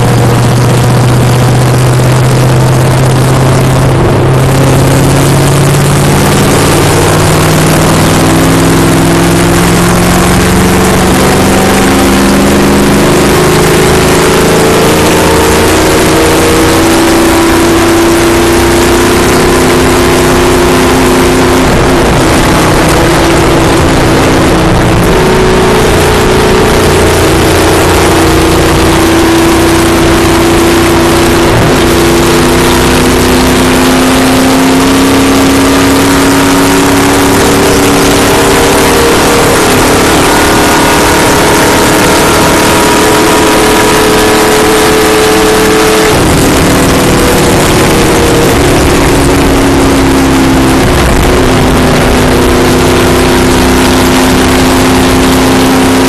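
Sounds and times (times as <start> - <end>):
race car engine droning: 0.0 - 56.0
wind and road noise: 0.0 - 56.0.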